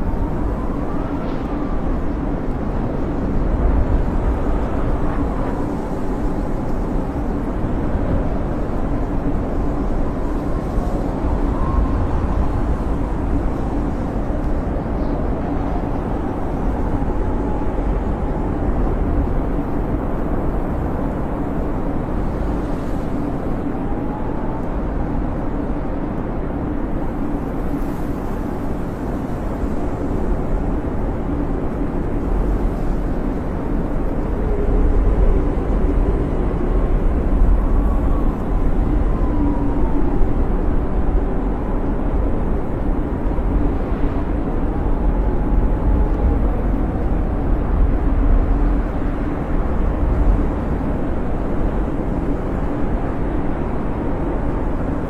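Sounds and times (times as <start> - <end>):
whistling howl of wind: 0.0 - 55.0
wind blowing in low rumble: 0.0 - 55.0.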